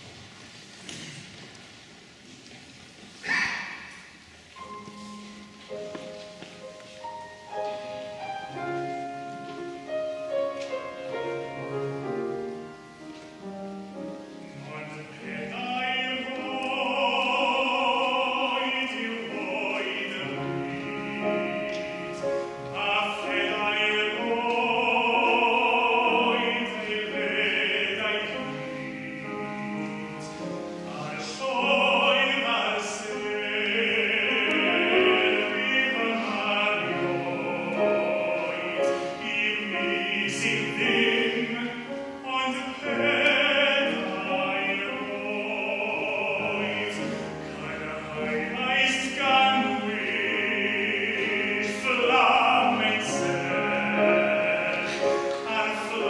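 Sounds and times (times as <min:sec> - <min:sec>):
piano accompaniment: 0:03.5 - 0:56.0
tenor singing operatic: 0:04.6 - 0:56.0.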